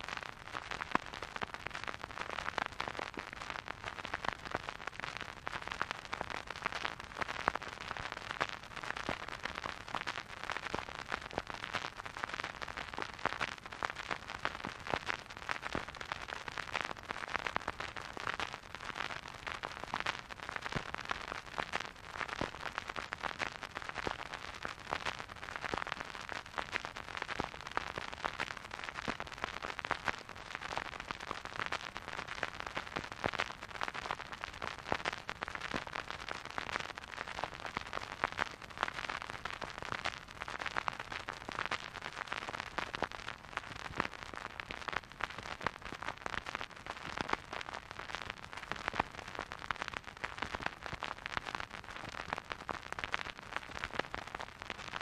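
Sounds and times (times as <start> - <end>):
vinyl record crackles and hiss: 0.0 - 55.0.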